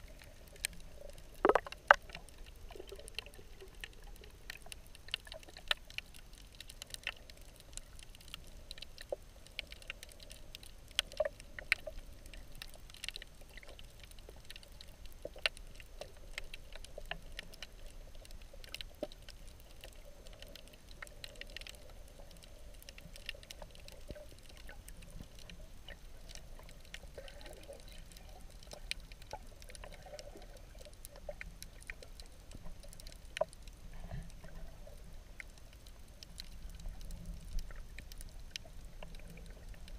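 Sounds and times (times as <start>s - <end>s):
sharp underwater clicks and crackles: 0.0s - 39.9s
underwater rumble of moving water: 0.0s - 39.9s.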